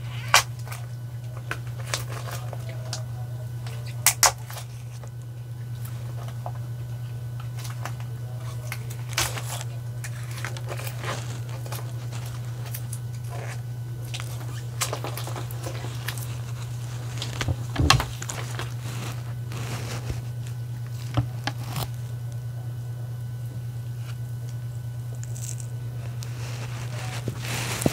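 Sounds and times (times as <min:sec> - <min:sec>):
cellophane crinkling: 0:00.0 - 0:22.6, 0:23.8 - 0:27.9
steady low hum: 0:00.0 - 0:27.9.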